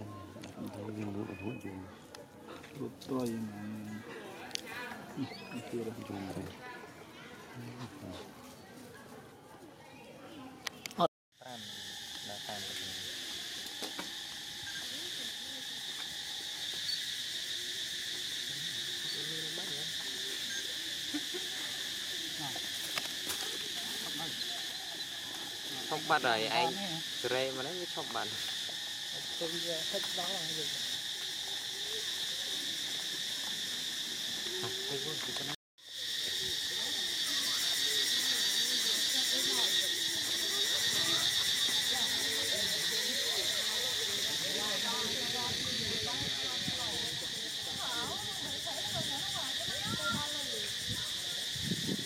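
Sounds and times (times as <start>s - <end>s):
insect chorus drone: 0.0s - 8.3s, 10.2s - 52.0s.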